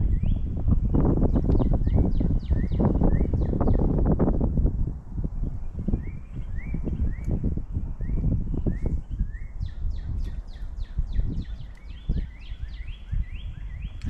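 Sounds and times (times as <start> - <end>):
bird chirping and whistling: 0.0 - 1.0, 1.6 - 3.8, 5.8 - 14.0
wind buffeting the microphone: 0.0 - 14.0.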